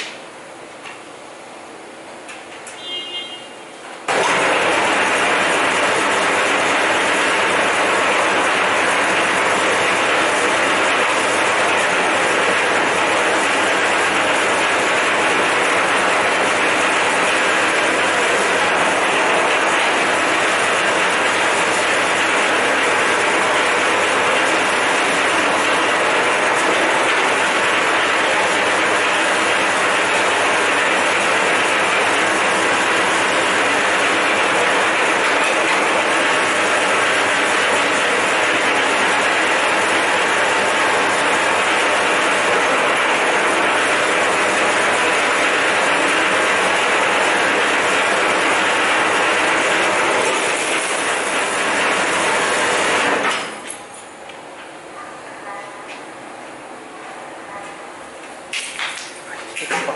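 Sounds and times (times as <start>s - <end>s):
wire stripping machine running: 0.0s - 54.9s, 58.0s - 59.9s.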